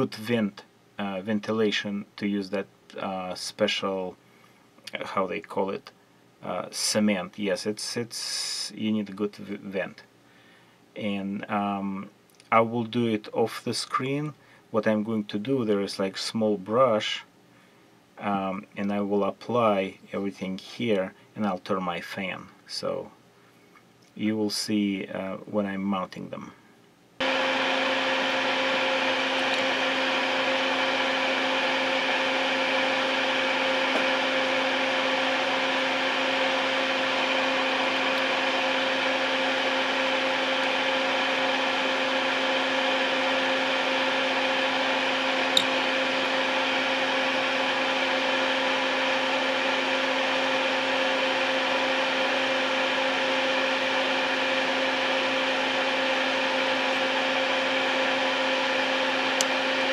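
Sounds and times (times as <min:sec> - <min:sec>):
ventilation fan running: 0:00.0 - 0:59.9.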